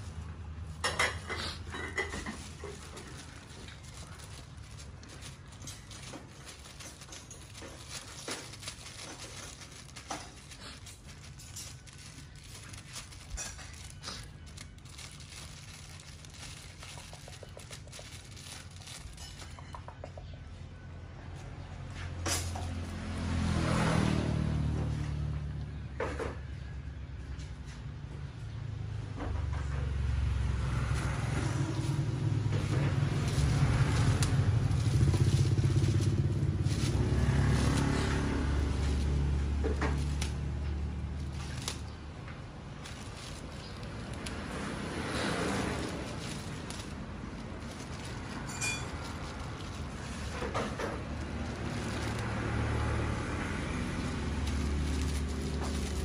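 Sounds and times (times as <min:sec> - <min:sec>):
vehicle engine passing by: 0:00.0 - 0:19.8, 0:20.4 - 0:56.0
plastic bag crinkling: 0:00.0 - 0:20.3, 0:30.3 - 0:56.0.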